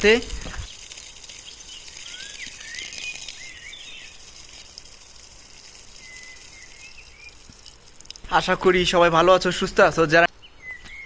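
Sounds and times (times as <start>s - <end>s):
background hiss: 0.0s - 11.0s
small birds chirping: 0.0s - 11.0s.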